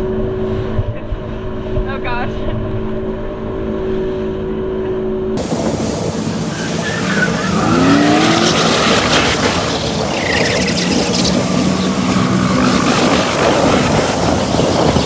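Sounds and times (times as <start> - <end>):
jet ski engine: 0.0 - 15.0
rush of wind and water: 0.0 - 15.0.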